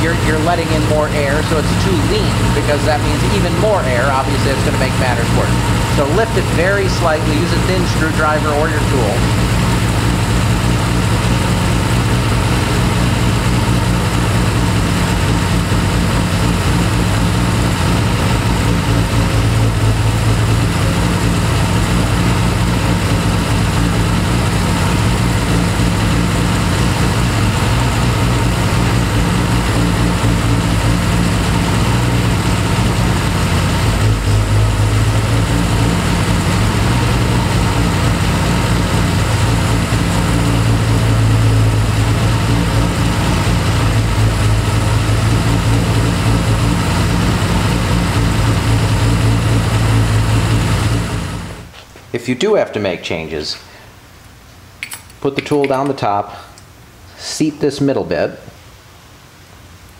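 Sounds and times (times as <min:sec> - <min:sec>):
car engine idling: 0:00.0 - 0:51.7.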